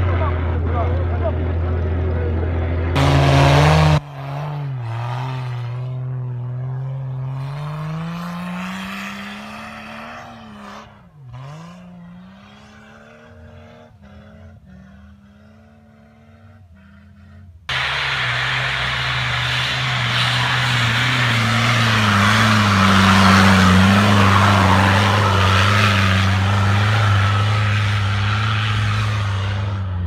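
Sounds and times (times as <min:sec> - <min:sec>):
suv engine revving hard: 0:03.0 - 0:06.0, 0:07.2 - 0:30.0.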